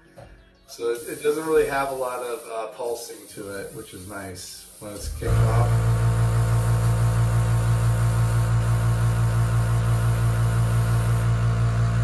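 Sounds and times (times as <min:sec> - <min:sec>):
air compressor humming: 0:00.8 - 0:12.0.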